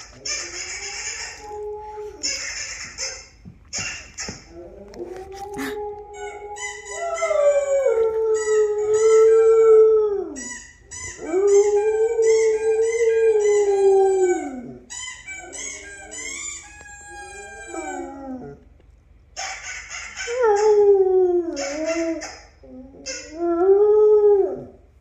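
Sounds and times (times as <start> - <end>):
dog howling: 0.0 - 2.3, 4.4 - 10.5, 11.1 - 18.6, 20.2 - 24.8
recorded dog howling playback: 0.0 - 18.8, 19.4 - 25.0.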